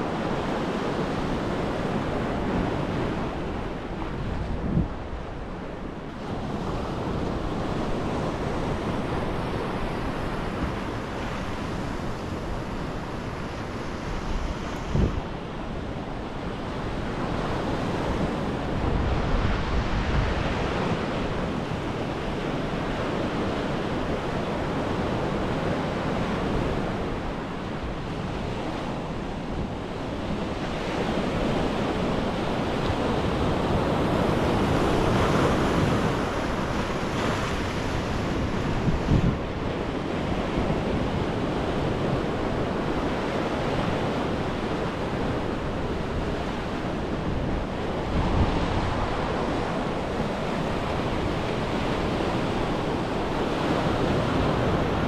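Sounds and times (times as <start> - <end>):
waves breaking on beach: 0.0 - 55.0
wind on microphone: 0.0 - 55.0.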